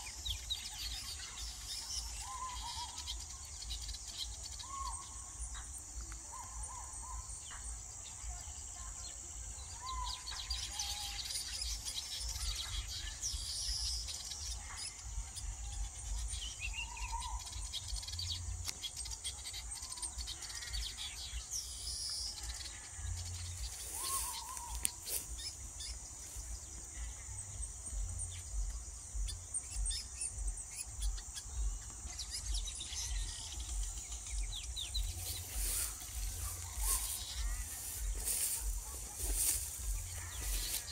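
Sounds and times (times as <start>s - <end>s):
birds chirping: 0.0s - 40.9s
insect drone: 0.0s - 40.9s.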